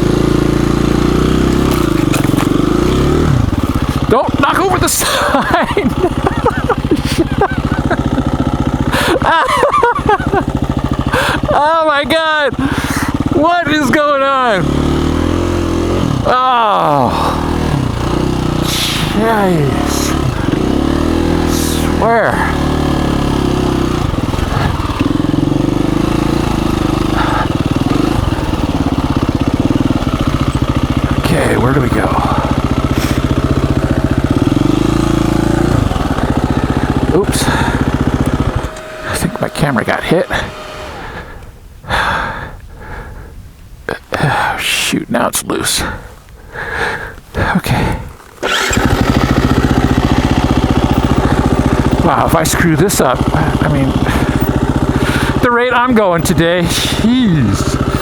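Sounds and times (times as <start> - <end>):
motorcycle engine running: 0.0 - 43.4, 45.6 - 58.0.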